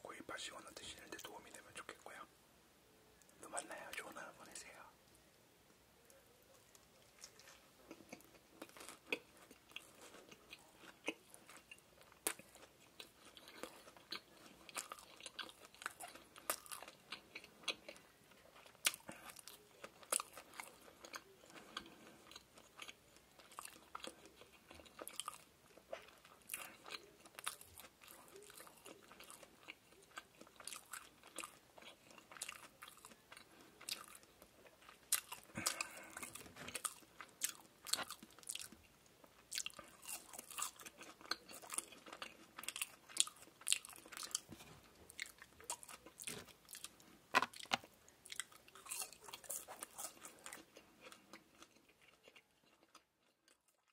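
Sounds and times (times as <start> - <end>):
chewing crunchy food: 6.1 - 53.9.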